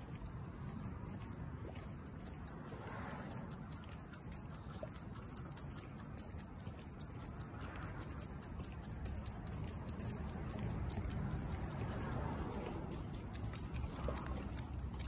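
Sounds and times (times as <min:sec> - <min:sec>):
dog claws ticking on pavement: 0:00.0 - 0:15.0.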